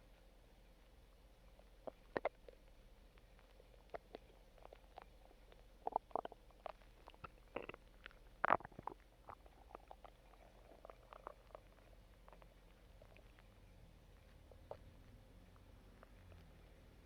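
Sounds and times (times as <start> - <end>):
stomach growling: 1.6 - 17.0.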